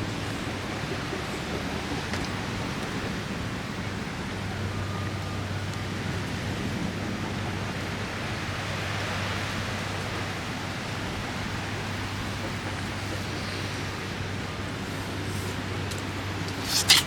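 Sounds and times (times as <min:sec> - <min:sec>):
high surf: 0:00.0 - 0:17.0
strong wind: 0:00.0 - 0:17.0.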